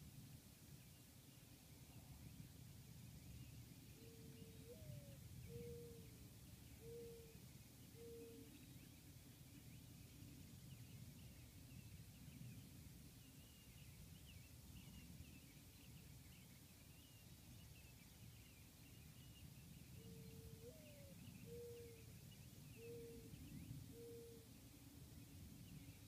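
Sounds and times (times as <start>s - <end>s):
small birds chirping: 0.7s - 26.0s.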